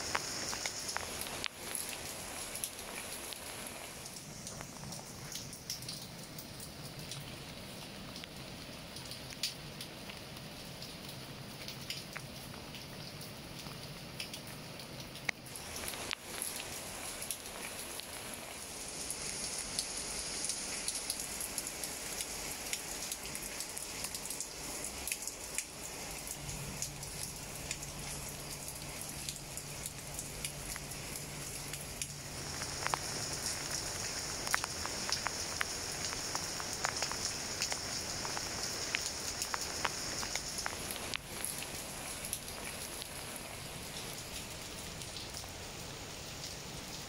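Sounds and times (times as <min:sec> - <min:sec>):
rain falling on leaves: 0:00.0 - 0:47.0
raindrops tapping: 0:00.0 - 0:47.0.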